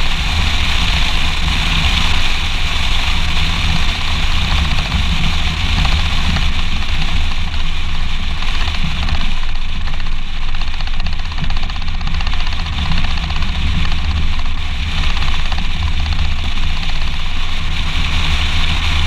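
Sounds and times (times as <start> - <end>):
tyre and road noise: 0.0 - 19.0
wind rumble on microphone: 0.0 - 19.0.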